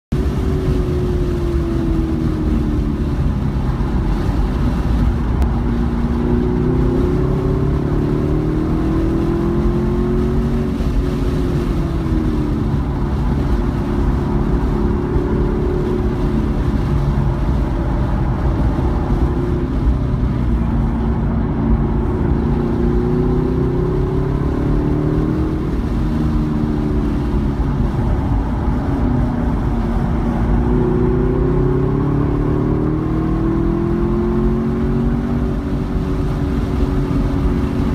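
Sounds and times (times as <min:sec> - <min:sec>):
car engine revving from cabin: 0:00.2 - 0:37.9.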